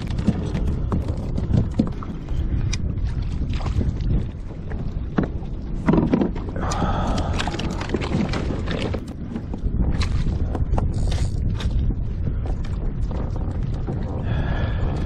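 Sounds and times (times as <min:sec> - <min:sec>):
water lapping against kayak hull: 0:00.0 - 0:15.0
wind rumbling on microphone: 0:00.0 - 0:15.0.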